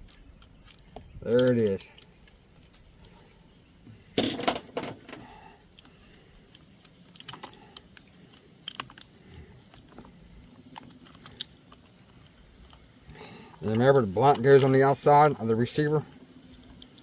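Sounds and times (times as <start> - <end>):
plastic parts clicking and clattering: 0.0 - 3.3, 4.2 - 15.4.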